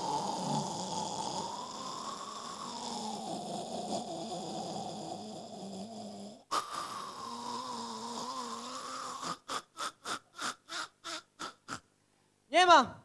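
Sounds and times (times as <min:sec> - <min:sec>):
man making droning vocal sound: 0:00.0 - 0:11.8.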